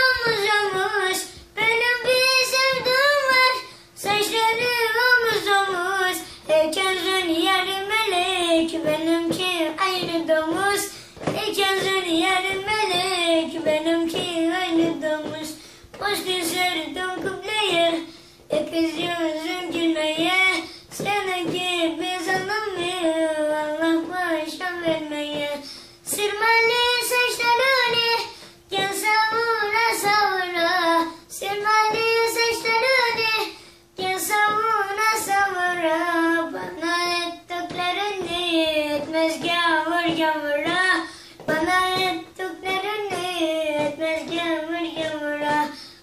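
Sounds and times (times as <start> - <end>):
boy singing unaccompanied: 0.0 - 46.0.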